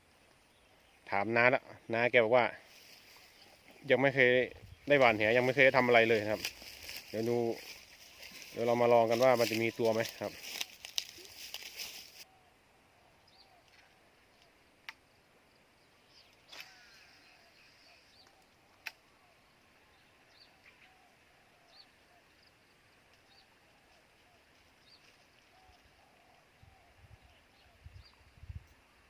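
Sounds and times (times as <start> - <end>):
outdoor field ambience: 0.0 - 29.0.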